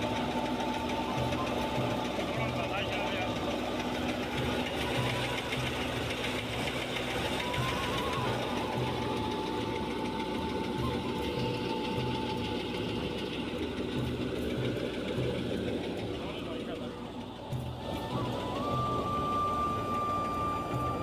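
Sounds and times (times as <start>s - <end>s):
tractor engine throb: 0.0s - 21.0s.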